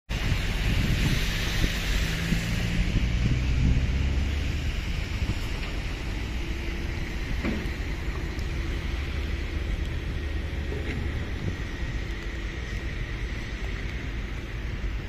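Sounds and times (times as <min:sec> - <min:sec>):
machinery engines rumbling: 0:00.1 - 0:15.0
road traffic: 0:00.1 - 0:15.0
wind noise on microphone: 0:00.1 - 0:15.0.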